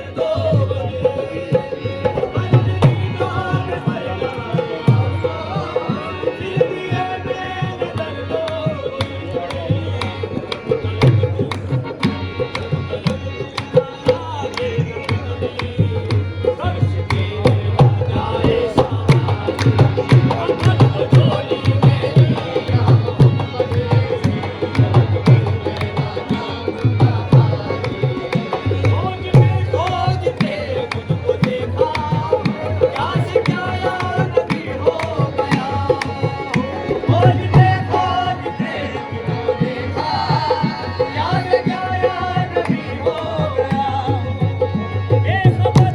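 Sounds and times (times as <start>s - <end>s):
people singing: 0.0s - 45.9s
tabla drumming: 0.0s - 45.9s.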